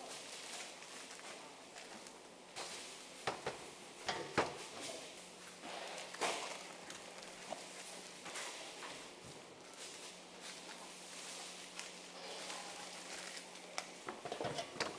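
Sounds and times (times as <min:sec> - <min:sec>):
plastic crinkling: 0:00.0 - 0:03.2, 0:04.7 - 0:08.8, 0:09.6 - 0:14.8.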